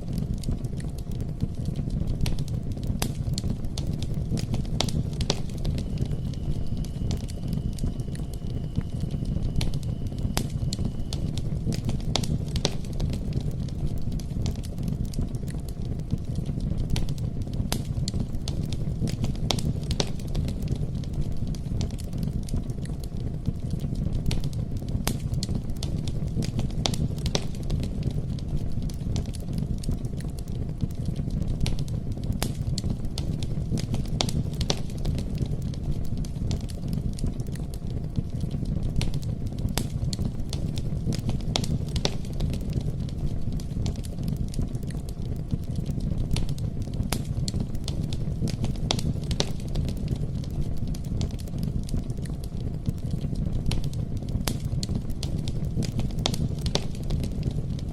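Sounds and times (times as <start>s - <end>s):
campfire flames rumbling: 0.0s - 57.9s
burning wood popping and snapping: 0.1s - 57.9s.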